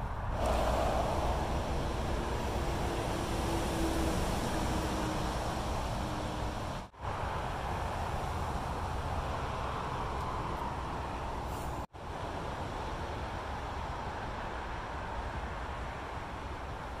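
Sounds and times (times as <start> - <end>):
steady motorway traffic: 0.0 - 17.0.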